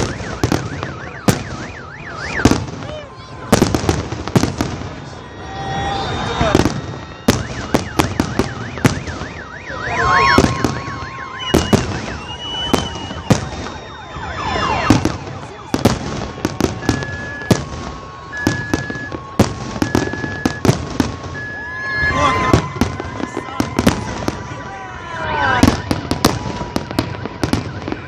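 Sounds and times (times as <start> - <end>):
car alarm: 0.0 - 3.9, 5.9 - 28.0
fireworks bangs and crackles: 0.0 - 28.0.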